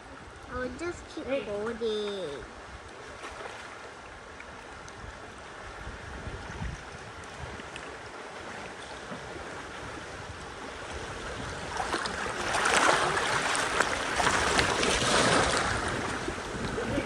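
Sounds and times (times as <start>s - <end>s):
river water rushing and splashing: 0.0s - 17.0s.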